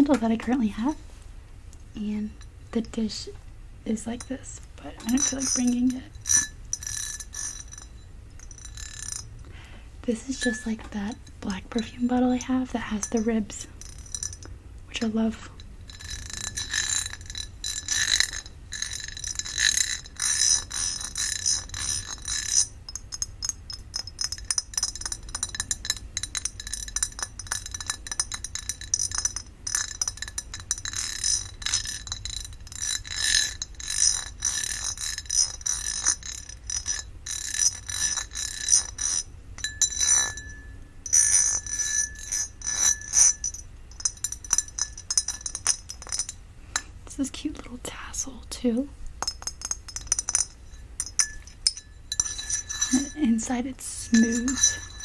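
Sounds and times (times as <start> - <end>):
glass lid tapped and scratched: 5.0 - 9.3, 10.1 - 46.4, 49.2 - 55.0
glass ringing bell-like: 5.0 - 9.4, 10.1 - 46.9, 49.2 - 55.0.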